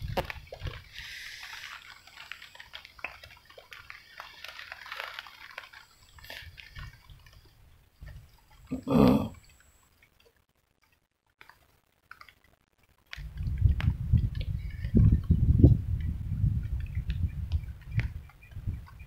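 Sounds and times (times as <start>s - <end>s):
rain pattering and dripping: 0.0s - 19.0s.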